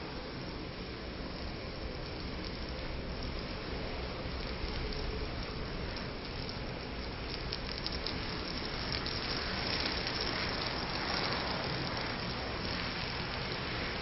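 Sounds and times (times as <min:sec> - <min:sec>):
matchsticks blazing and crackling: 0:01.2 - 0:14.0.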